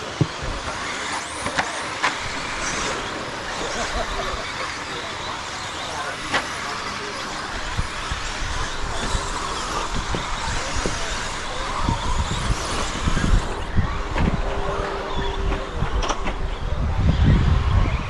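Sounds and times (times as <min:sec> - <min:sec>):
toy truck motors and tyres hissing: 0:00.0 - 0:18.0.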